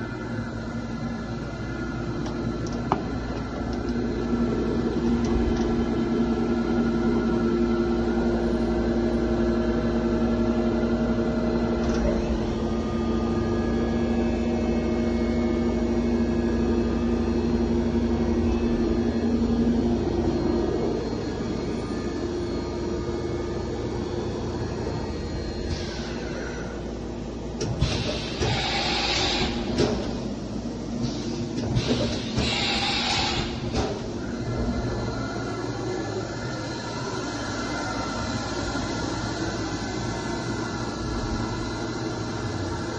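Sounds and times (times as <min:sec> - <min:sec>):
machine mechanical hum: 0:00.0 - 0:42.9
steady machine tones: 0:00.0 - 0:42.9.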